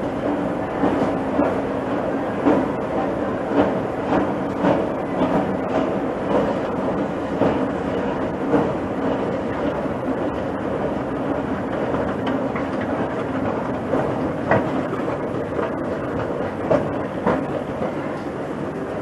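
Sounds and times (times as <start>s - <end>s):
metro station rumble: 0.0s - 19.0s.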